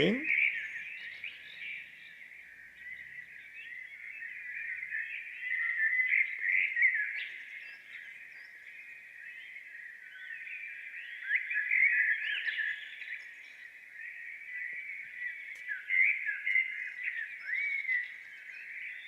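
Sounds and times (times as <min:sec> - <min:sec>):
recorded birdsong through small speaker: 0:00.0 - 0:19.0.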